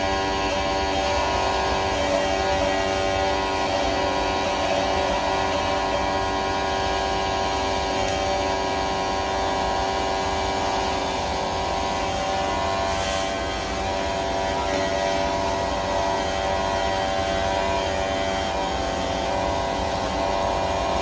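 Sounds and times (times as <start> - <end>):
welding arc buzzing: 0.0 - 21.0.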